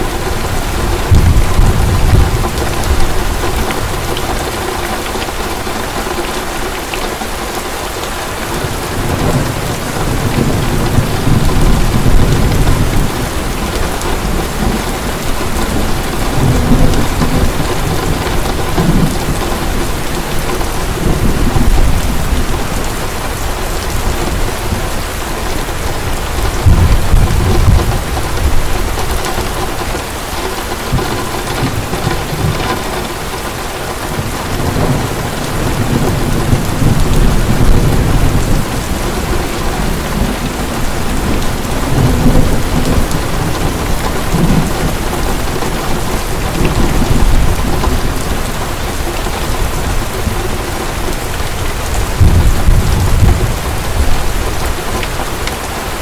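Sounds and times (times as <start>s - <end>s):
rolling thunder: 0.0s - 4.8s, 8.4s - 55.4s
heavy rain pouring: 0.0s - 56.0s.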